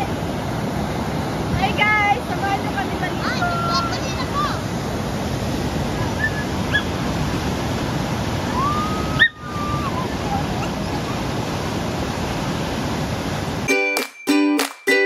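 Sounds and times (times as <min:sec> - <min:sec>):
surf breaking over rocks: 0:00.0 - 0:13.7.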